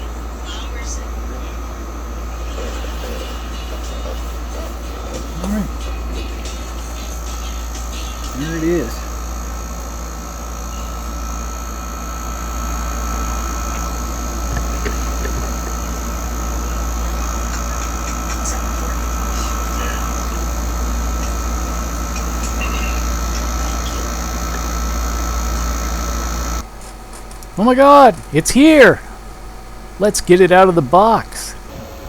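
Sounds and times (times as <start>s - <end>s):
machine rumble and hum: 0.0s - 32.0s
thin whine: 0.0s - 32.0s.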